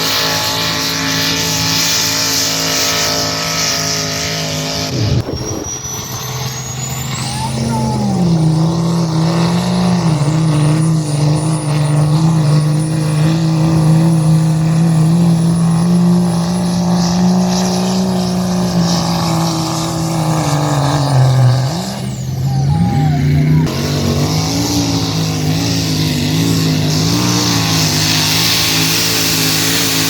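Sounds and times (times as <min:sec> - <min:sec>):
vehicle engine at high revs: 0:00.0 - 0:30.0.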